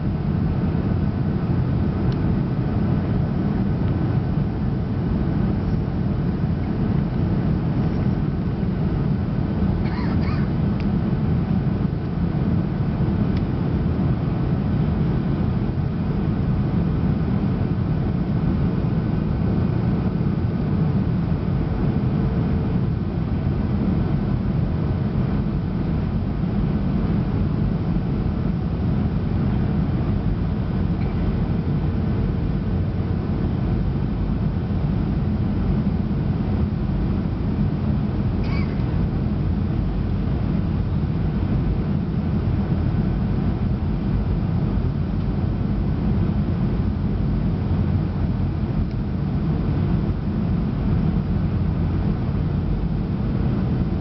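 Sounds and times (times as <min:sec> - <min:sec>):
faint steady hum: 0:00.0 - 0:54.0
low rumble of aircraft cabin: 0:00.0 - 0:54.0.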